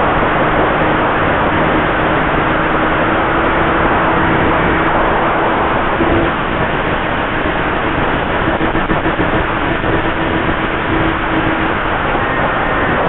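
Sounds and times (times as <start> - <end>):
model plane motor droning: 0.0 - 13.0
wind rushing: 0.0 - 13.0.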